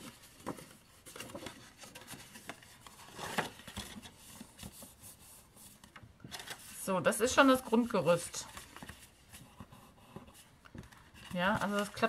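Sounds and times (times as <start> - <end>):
cardstock rustling: 0.0 - 12.0.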